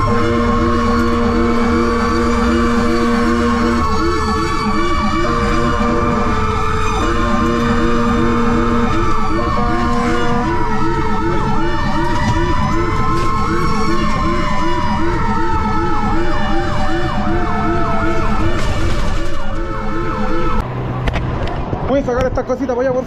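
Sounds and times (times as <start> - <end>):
emergency vehicle sirens: 0.0 - 23.0.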